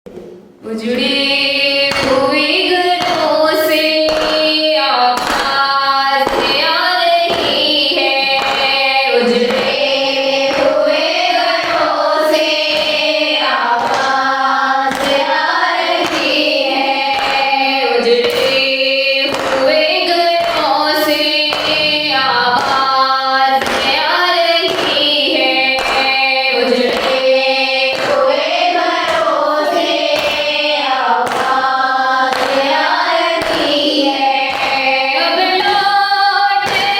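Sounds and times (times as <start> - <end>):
rhythmic chest-beating: 0.1 - 36.9.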